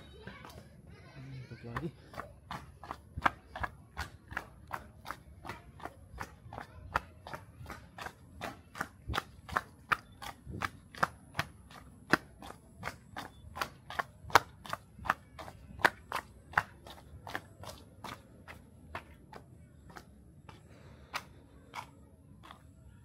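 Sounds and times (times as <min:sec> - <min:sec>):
running footsteps: 0:00.0 - 0:23.0.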